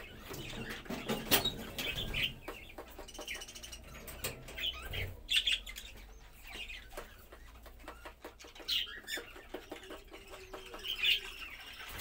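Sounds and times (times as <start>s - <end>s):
budgerigars chattering: 0.0s - 12.0s.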